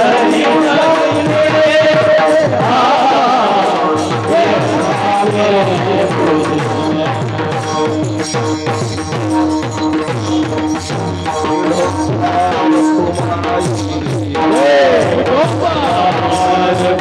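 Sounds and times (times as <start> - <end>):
held instrumental tones: 0.0 - 17.0.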